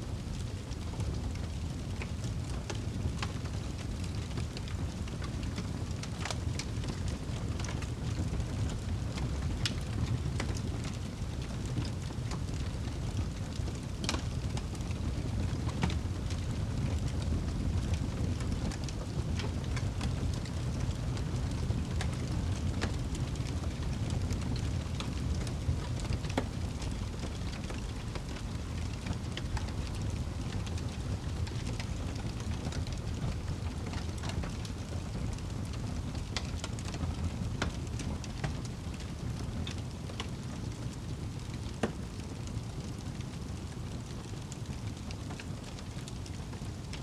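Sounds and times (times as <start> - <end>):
fire crackling and popping: 0.0 - 47.0
low fire rumble: 0.0 - 47.0.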